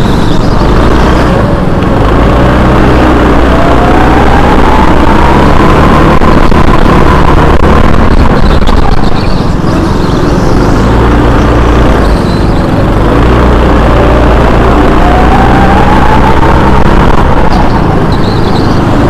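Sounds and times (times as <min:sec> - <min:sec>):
go-kart engine accelerating: 0:00.0 - 0:19.0.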